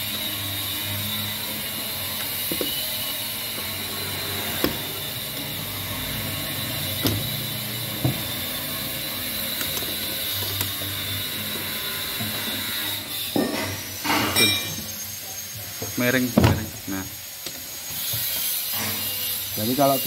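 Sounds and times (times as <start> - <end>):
workshop machinery hum: 0.0 - 20.0.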